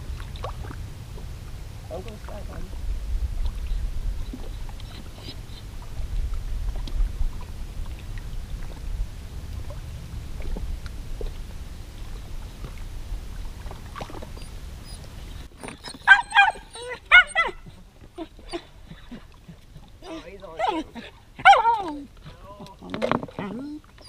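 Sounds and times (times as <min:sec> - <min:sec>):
wind buffeting microphone: 0:00.0 - 0:22.6
small waves lapping on rocks: 0:00.0 - 0:24.0.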